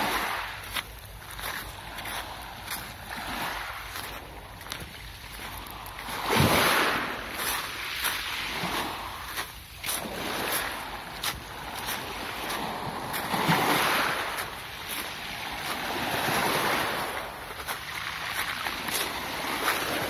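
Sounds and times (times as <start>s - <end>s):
waves washing onto pebbles: 0.0s - 20.0s.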